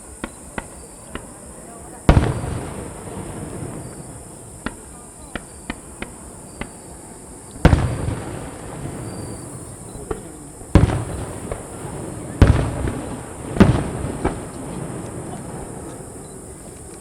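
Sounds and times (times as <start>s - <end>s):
firework booms with echo: 0.0s - 16.6s
firework sharp cracks: 0.0s - 17.0s.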